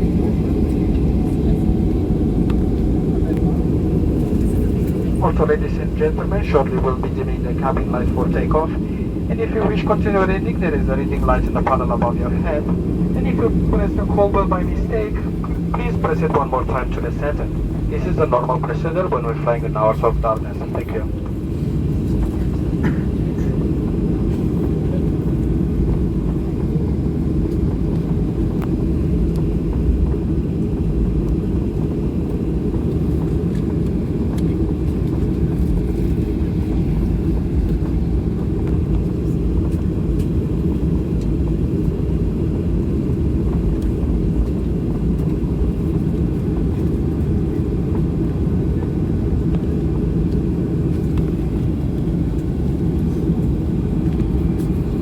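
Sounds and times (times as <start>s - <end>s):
jet engine low rumble: 0.0s - 55.0s.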